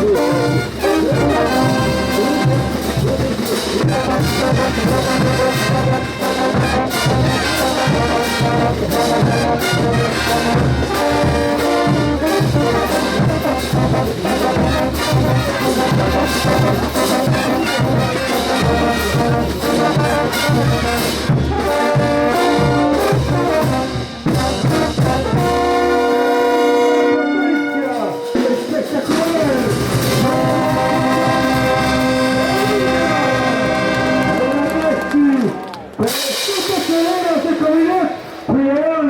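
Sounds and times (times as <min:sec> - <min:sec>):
steady drum beat: 0:00.0 - 0:27.1, 0:27.8 - 0:35.1
trumpets and trombones: 0:00.0 - 0:39.0.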